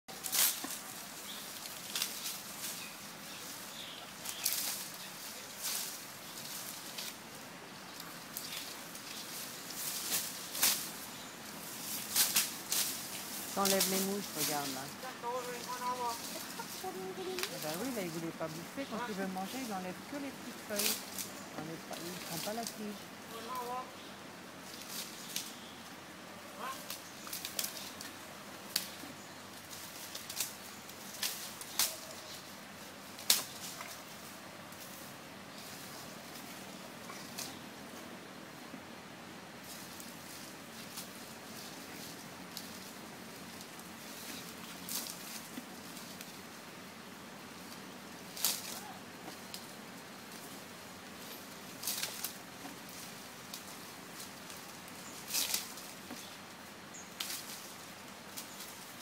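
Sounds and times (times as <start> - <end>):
leafy branches swishing: 0.1 - 25.9, 26.5 - 38.1, 39.5 - 59.0
leaves and twigs rustling and snapping: 0.1 - 38.2, 39.6 - 59.0.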